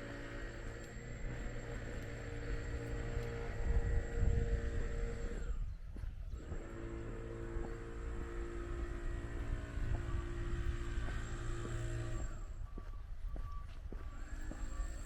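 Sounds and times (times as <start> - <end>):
steady engine-like drone: 0.0 - 15.0
wind buffeting the microphone: 0.0 - 15.0.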